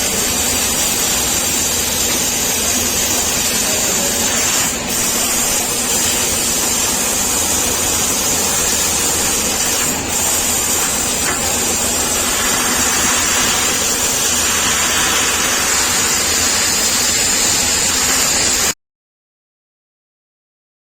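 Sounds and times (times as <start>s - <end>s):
laser machine hissing: 0.0s - 18.8s.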